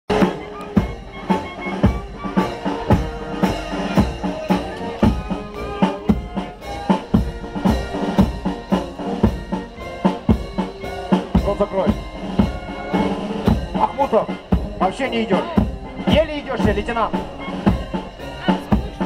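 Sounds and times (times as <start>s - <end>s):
band holding notes: 0.1s - 19.0s
drum steady beat: 0.1s - 19.0s.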